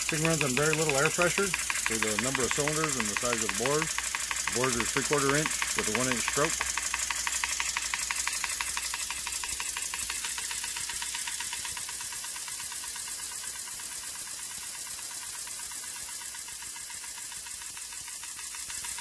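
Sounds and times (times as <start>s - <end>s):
air hissing: 0.0s - 19.0s
model steam engine exhaust beats: 0.0s - 19.0s.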